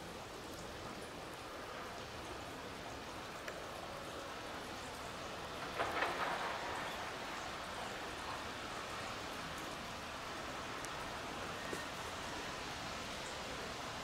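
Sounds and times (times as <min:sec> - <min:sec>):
light rain hissing: 0:00.0 - 0:14.0.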